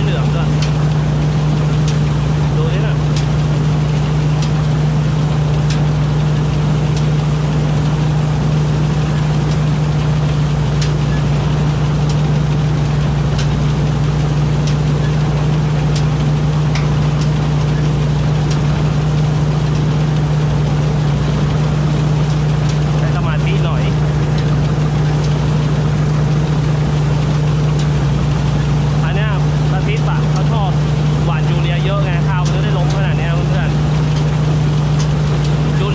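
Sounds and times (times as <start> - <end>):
diesel engine low hum: 0.0 - 35.9.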